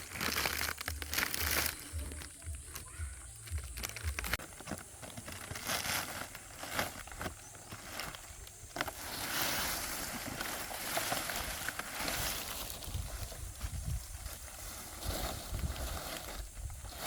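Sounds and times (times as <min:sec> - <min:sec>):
dry palm leaves rustling: 0:00.0 - 0:17.0.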